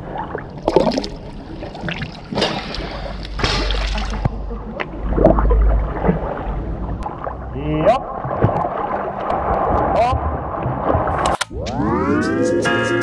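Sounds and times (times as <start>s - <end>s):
low rumble of moving water: 0.0s - 11.4s
pool water splashing and lapping: 0.0s - 11.5s.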